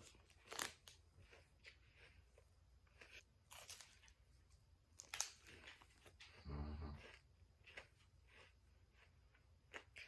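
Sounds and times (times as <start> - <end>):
faint crunching of wafer cookie: 0.0 - 10.0.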